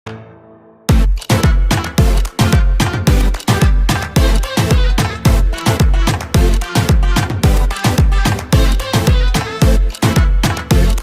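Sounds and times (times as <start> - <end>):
electronic dance music: 0.9 - 11.0.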